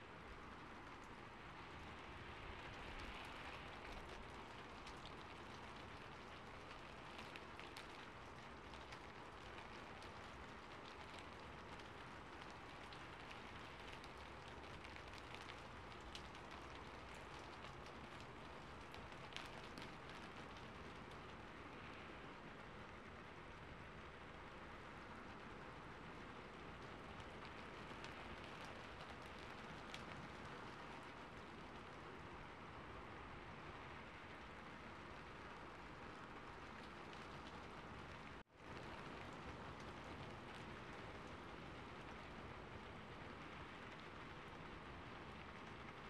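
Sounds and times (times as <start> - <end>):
rain hissing on a rooftop: 0.0 - 46.0
sharp raindrop ticks: 0.0 - 46.0.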